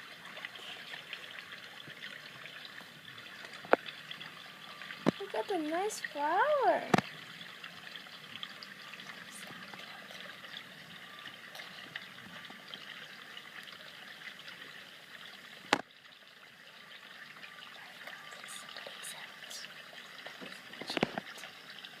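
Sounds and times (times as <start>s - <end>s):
water trickling: 0.0s - 22.0s.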